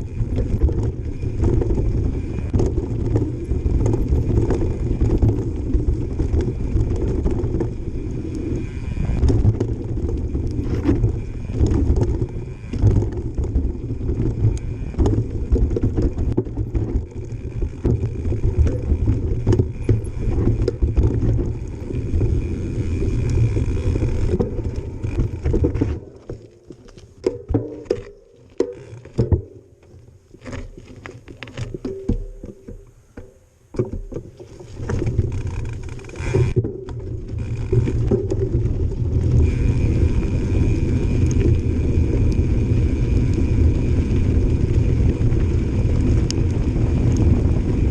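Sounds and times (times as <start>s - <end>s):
bicycle freehub buzzing: 0.0s - 27.2s, 27.8s - 31.6s, 34.2s - 47.9s
bike knocking and rattling: 0.0s - 47.9s
tyres rumbling on dirt and rock: 0.0s - 47.9s.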